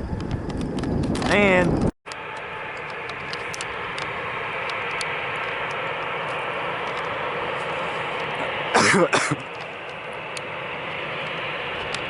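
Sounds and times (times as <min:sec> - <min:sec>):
jet airliner engines rushing: 0:00.0 - 0:12.0.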